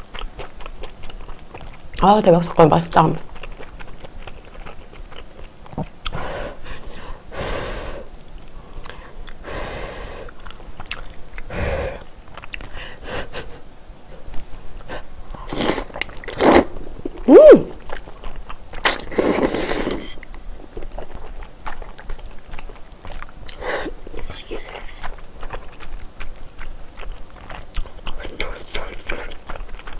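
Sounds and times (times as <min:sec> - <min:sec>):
slurping and chewing noodles: 0:00.0 - 0:02.2, 0:03.0 - 0:13.6, 0:14.2 - 0:29.9.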